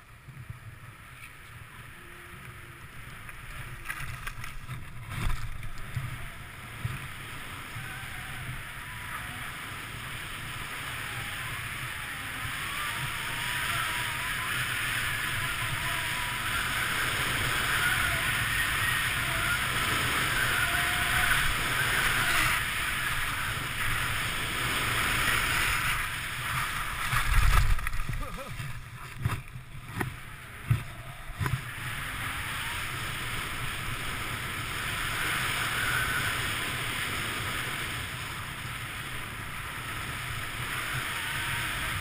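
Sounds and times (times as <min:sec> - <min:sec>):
skis sliding over packed snow: 0:00.0 - 0:42.0
wind rushing over microphone: 0:00.0 - 0:42.0.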